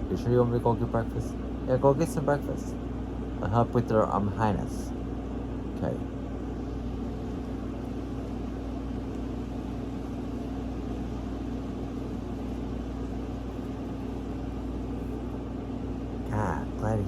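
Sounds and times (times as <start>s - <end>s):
mechanical hum and whir: 0.0s - 17.0s.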